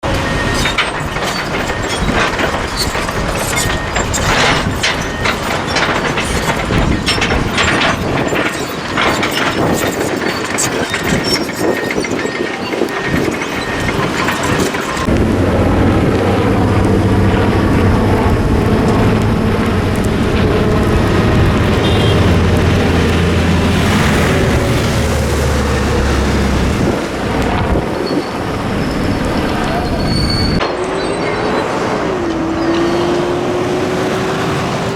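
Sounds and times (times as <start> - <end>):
burning vegetation crackling: 0.0 - 30.6
engine drone: 0.0 - 34.9
fire rushing noise: 0.0 - 34.9.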